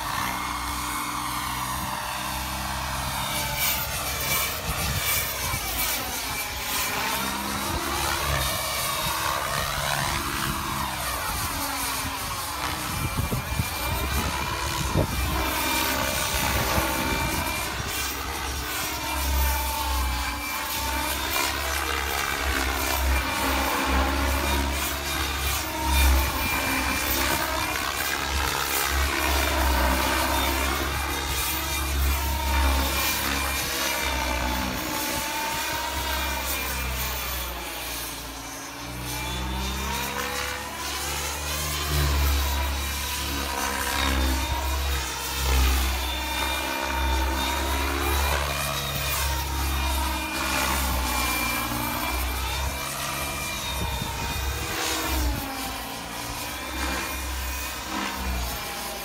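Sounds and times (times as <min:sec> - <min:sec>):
helicopter rotor noise: 0:00.0 - 0:59.0
turbine whine: 0:00.0 - 0:59.0.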